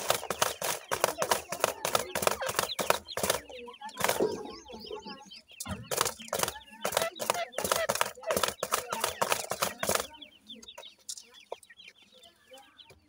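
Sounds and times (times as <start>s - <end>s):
high quick chirping calls: 0.0s - 12.8s
birds pecking and scratching clay: 0.0s - 13.0s.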